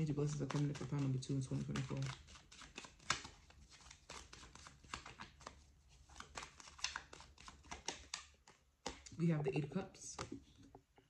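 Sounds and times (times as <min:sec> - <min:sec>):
cards being shuffled: 0:00.0 - 0:09.2, 0:10.1 - 0:10.6.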